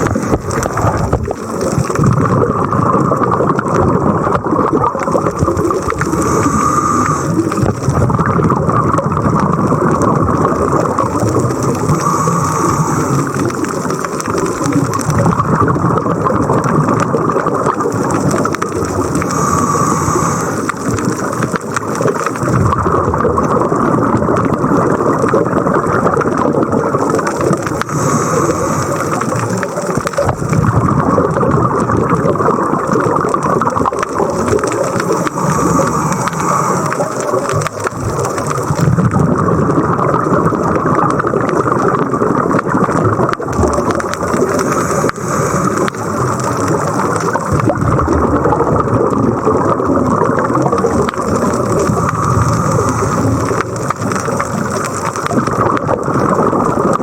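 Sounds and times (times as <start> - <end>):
underwater regulator breathing bubbles: 0.0 - 57.0.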